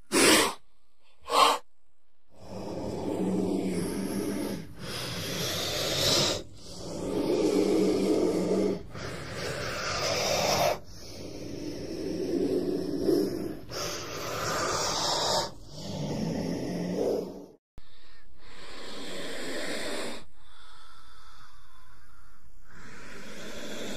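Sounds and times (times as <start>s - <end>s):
snake hissing: 0.0s - 1.7s, 2.4s - 17.6s, 18.4s - 23.9s.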